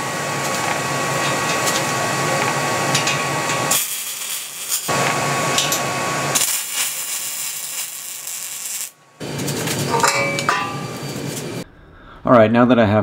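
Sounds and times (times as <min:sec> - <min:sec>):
welding arc hissing and sizzling: 0:00.0 - 0:10.0, 0:10.6 - 0:11.6.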